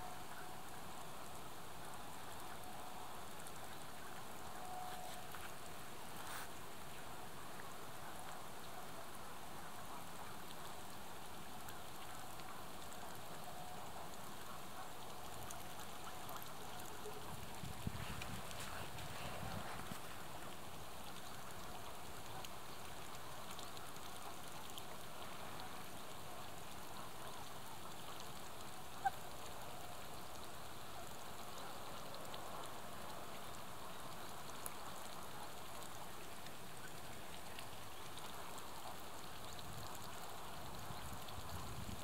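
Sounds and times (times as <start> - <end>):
geese splashing on water: 0.1 - 42.0.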